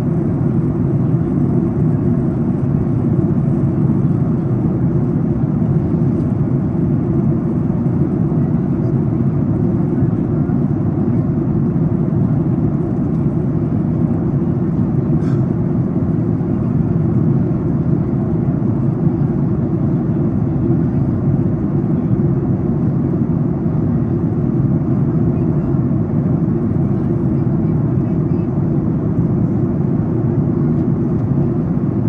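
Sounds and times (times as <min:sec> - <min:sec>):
airliner cabin rumble: 0:00.0 - 0:32.0.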